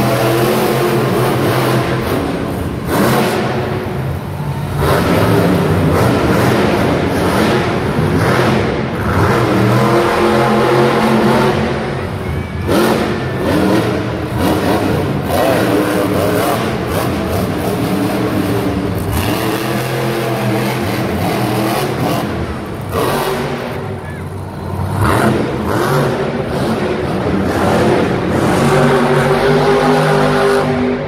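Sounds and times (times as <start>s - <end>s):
truck engine revving hard: 0.0s - 31.0s.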